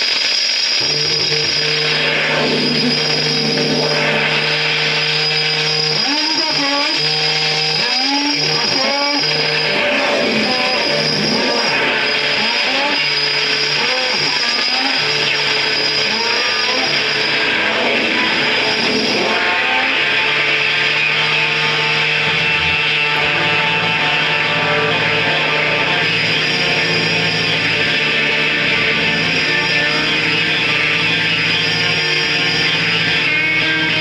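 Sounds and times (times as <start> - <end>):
distorted noise music: 0.0 - 34.0
high whine: 0.0 - 34.0
low drone: 0.0 - 34.0
sliding pitched tones: 0.0 - 34.0.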